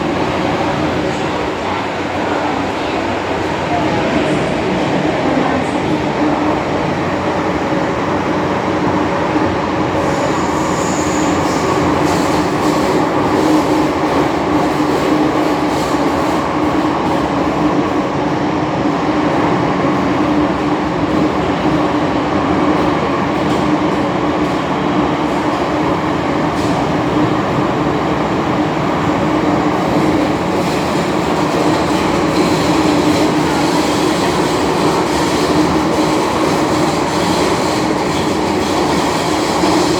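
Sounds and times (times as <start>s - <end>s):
train running through tunnel: 0.0s - 39.9s.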